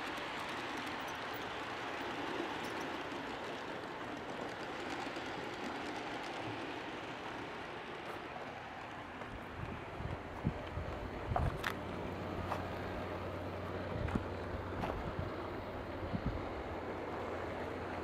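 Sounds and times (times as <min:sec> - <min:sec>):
small wheels clattering on rail: 0:00.0 - 0:18.0.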